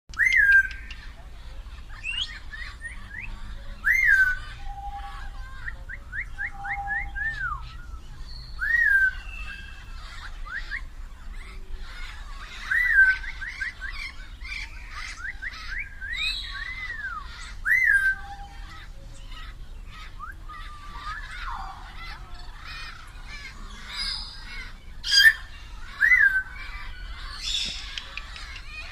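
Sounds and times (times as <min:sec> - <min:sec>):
parrots chirping: 0:00.1 - 0:28.9.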